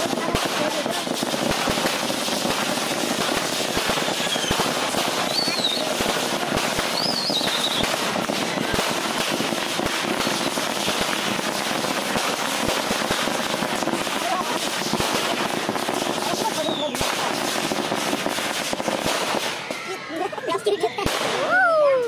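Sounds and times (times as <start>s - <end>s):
fireworks whistles: 0.0s - 21.7s
fireworks crackling: 0.0s - 22.0s.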